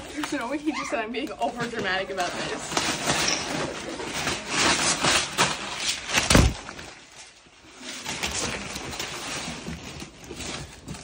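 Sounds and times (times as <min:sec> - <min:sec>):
tape and plastic crinkling: 0:00.0 - 0:11.0.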